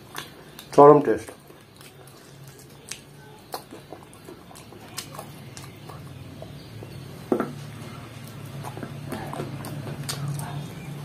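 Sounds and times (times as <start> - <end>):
chewing and lip smacks: 0.0 - 11.0.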